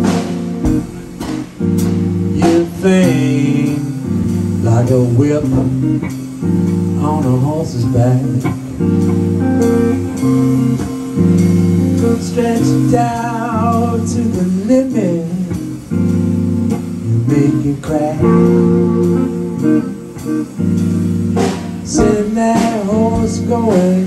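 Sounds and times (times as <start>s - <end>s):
drums: 0.0s - 24.0s
electric blues guitar: 0.0s - 24.0s.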